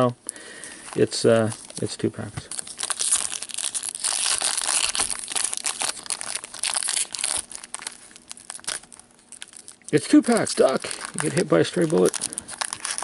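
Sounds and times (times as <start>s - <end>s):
foil wrapper crinkling: 0.7s - 13.0s.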